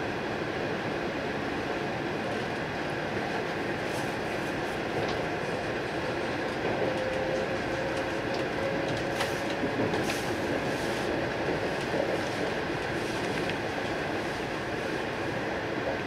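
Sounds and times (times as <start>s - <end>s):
train running noise inside cabin: 0.0s - 16.0s.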